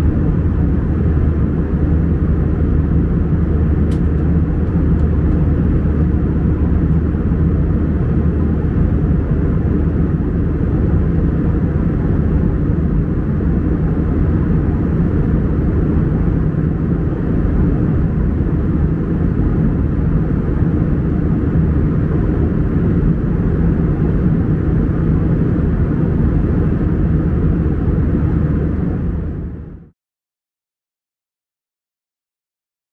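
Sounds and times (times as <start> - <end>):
airplane cabin drone: 0.0 - 29.9
constant low hum: 0.0 - 29.9.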